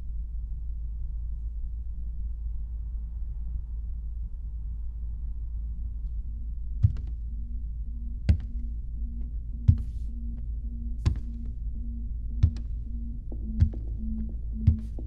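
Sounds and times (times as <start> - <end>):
faint pulsing hum: 0.0 - 15.0
low droning horror score: 2.5 - 15.0.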